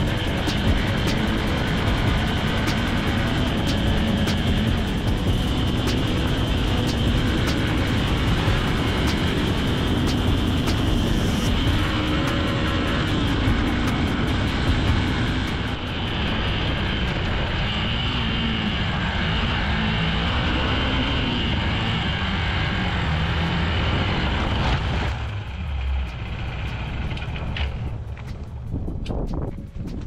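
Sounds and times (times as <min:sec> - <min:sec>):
motorcycle engine revving: 0:00.0 - 0:30.0
wind rushing over microphone: 0:00.0 - 0:30.0.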